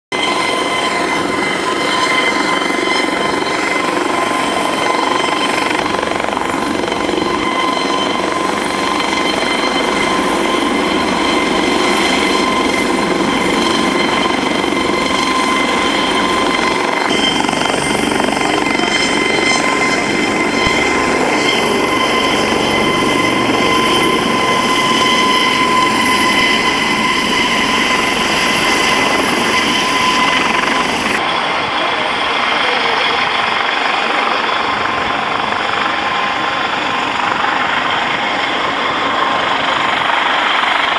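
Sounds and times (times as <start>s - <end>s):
helicopter rotor and engine: 0.1s - 40.9s
steady high whine: 0.2s - 35.8s.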